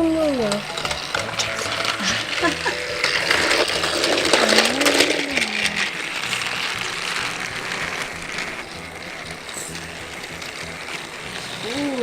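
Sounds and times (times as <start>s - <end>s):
toy train motor whir: 0.0s - 12.0s
wheel rattle: 0.0s - 12.0s.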